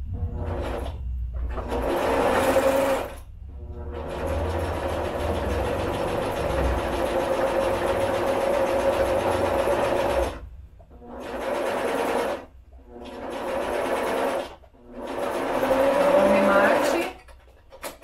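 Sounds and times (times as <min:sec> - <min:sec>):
electric sewing machine stitching: 0:00.1 - 0:10.4, 0:11.0 - 0:17.2.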